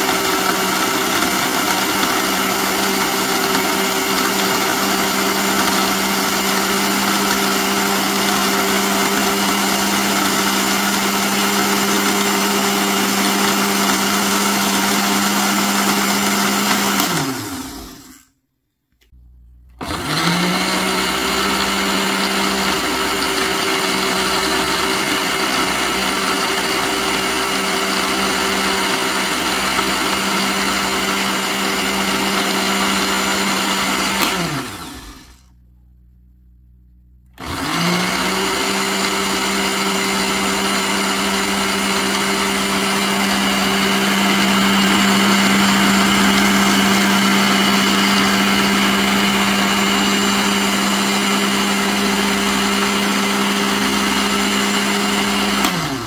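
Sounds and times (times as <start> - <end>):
blender running: 0.0 - 18.4, 19.2 - 35.6, 37.4 - 56.0.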